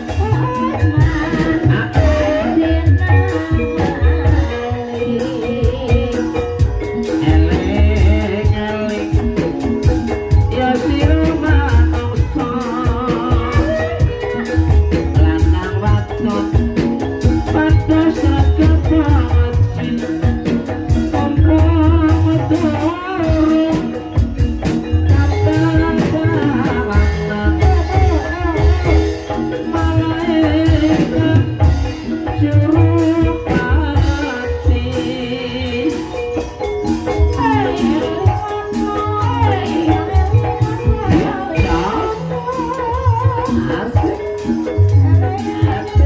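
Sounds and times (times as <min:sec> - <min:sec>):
drum strokes: 0:00.0 - 0:46.0
metallophone melody: 0:00.0 - 0:46.0
person singing: 0:00.0 - 0:46.0.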